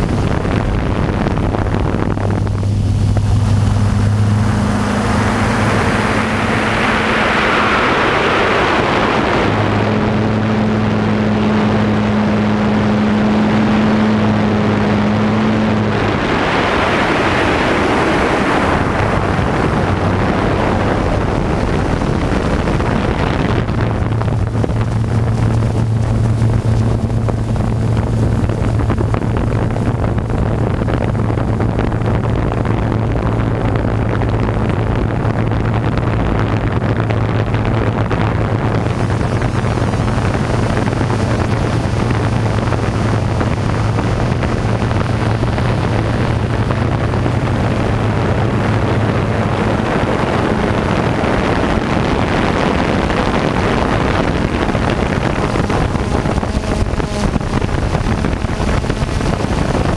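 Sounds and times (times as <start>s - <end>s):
drone motors humming: 0.0s - 59.9s
wind on microphone: 0.0s - 59.9s.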